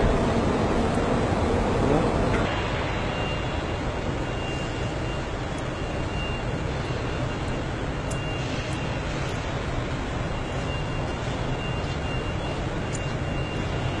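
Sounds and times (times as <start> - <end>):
factory hall roar: 0.0 - 14.0.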